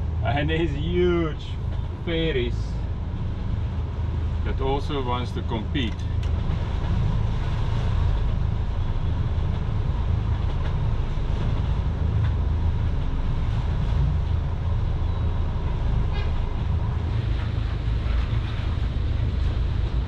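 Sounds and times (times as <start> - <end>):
diesel boat engines rumbling: 0.0 - 20.0.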